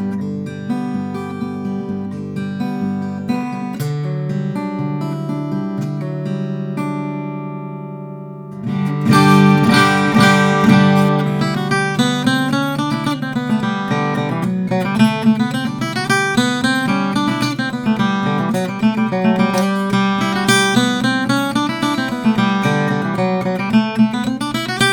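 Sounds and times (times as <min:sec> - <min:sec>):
acoustic guitar chords and notes: 0:00.0 - 0:24.9.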